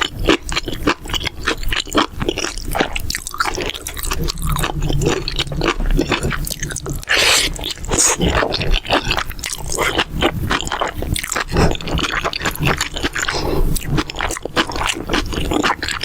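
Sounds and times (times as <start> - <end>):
close-miked chewing: 0.0 - 16.0
wet mouth clicks: 0.0 - 16.0.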